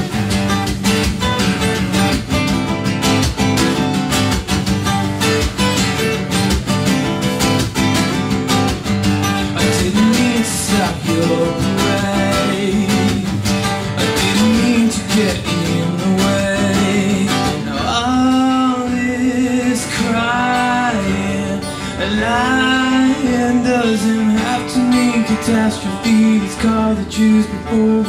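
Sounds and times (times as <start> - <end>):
acoustic guitars strumming: 0.0 - 28.0.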